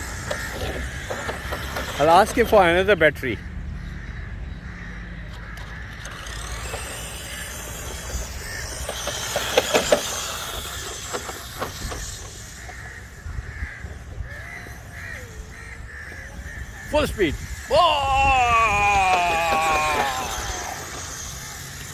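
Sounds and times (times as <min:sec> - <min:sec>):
rc truck running hiss: 0:00.0 - 0:02.8, 0:05.5 - 0:21.9
crows cawing: 0:00.0 - 0:21.9.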